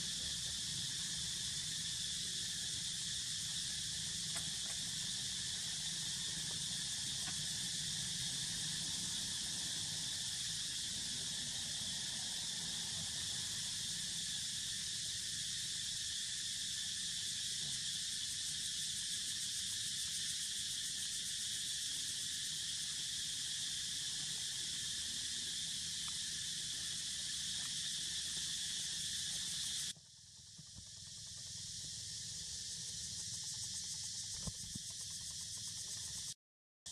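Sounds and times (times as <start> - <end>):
insects chorus shrill drone: 0.0 - 36.4.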